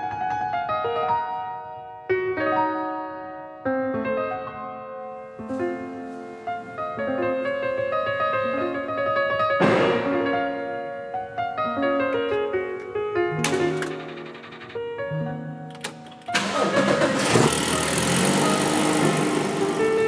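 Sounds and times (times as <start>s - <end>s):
solo piano music: 0.0s - 16.7s, 18.4s - 20.0s.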